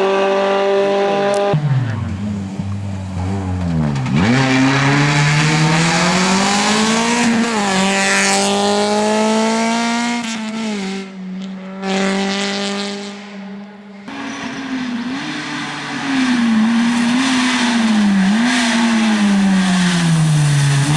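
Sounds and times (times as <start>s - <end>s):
rally car engine revving: 0.0s - 20.9s.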